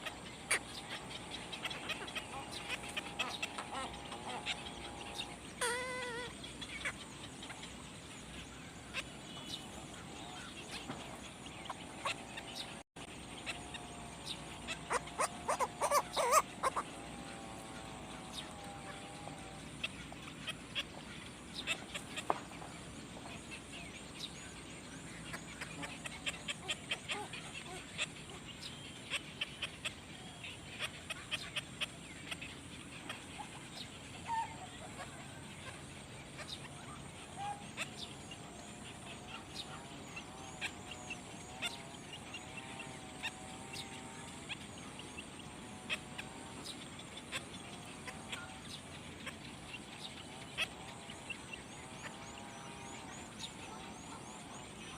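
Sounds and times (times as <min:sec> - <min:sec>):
nestling birds cheeping: 0:00.0 - 0:54.9.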